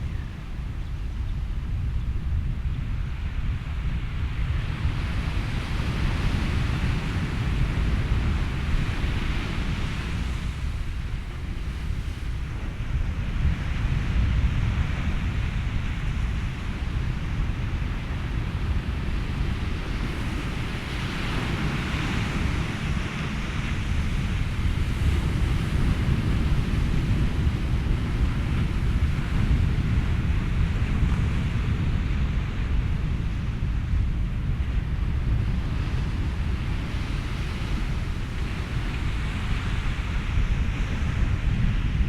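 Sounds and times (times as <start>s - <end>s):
wind: 0.0s - 42.0s
ocean waves: 4.0s - 42.0s.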